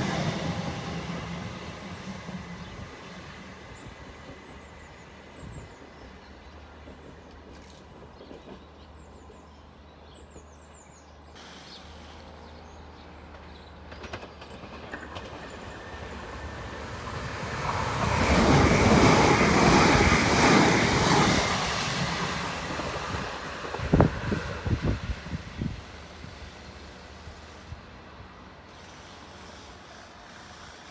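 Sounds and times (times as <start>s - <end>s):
train wheel-on-rail rumble: 0.0s - 30.9s.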